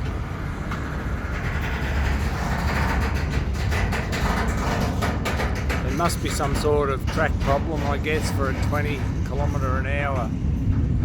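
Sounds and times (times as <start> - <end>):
freight train rumbling past: 0.0 - 11.0
wheel clicks over rail joints: 0.0 - 11.0.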